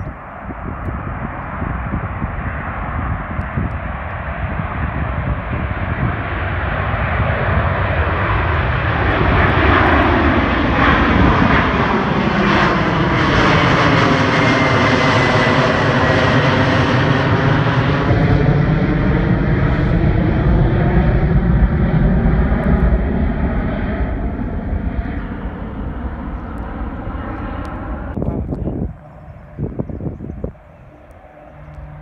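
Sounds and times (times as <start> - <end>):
jet airliner roaring overhead: 0.0 - 32.0.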